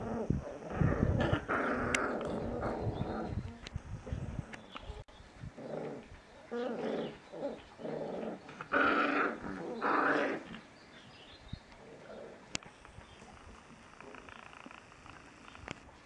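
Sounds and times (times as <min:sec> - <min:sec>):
puppies growling: 0:00.0 - 0:04.8, 0:05.4 - 0:10.7, 0:11.7 - 0:15.7.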